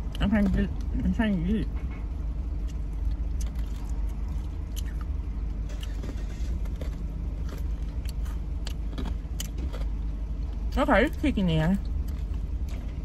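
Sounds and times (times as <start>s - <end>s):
steady low hum: 0.0s - 13.0s
crunchy chewing: 1.7s - 11.2s, 11.8s - 13.0s.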